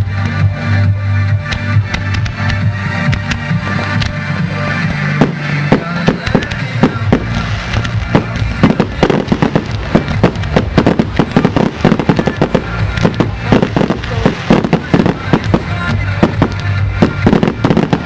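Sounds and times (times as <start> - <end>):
music playing: 0.0 - 18.0
fireworks banging: 1.4 - 18.0.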